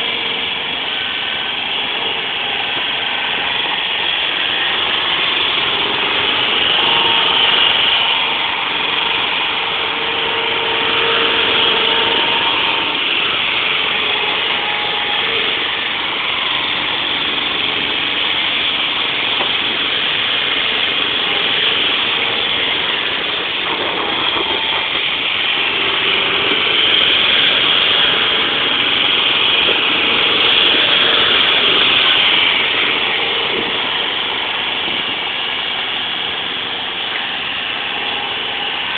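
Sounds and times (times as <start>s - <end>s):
forklift engine running: 0.0s - 38.9s.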